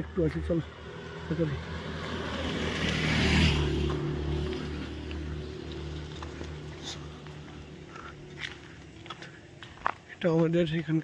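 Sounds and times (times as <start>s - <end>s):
vehicle engine hum and road noise: 0.0s - 11.0s.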